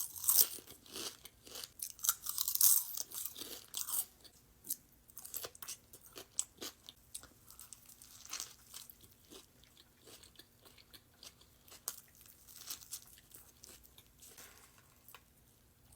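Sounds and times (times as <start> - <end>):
person chewing crunchy food: 0.0 - 14.4.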